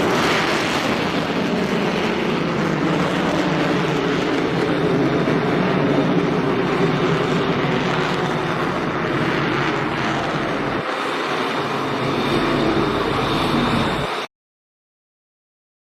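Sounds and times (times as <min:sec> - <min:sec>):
jet engine roar: 0:00.0 - 0:14.3.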